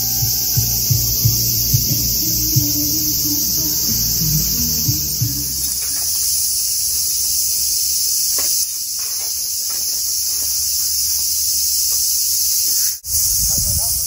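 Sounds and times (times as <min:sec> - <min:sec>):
shrill cicada chorus: 0:00.0 - 0:14.0.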